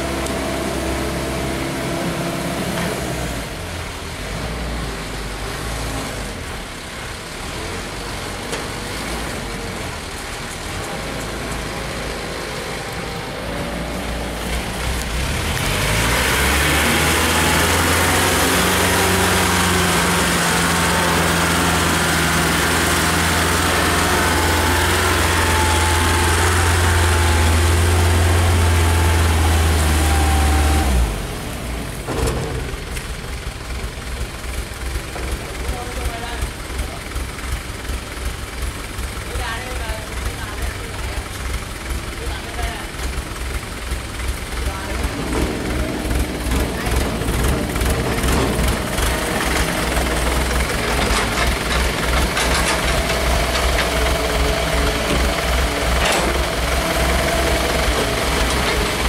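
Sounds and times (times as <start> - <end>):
dump truck engine drone: 0.0 - 59.0
excavator diesel engine: 0.0 - 59.0.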